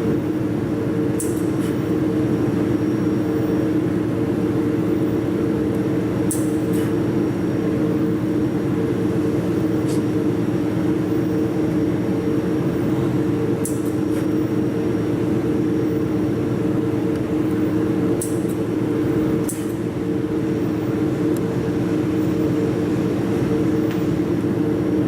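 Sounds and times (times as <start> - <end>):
laser welding machine humming: 0.0 - 25.0.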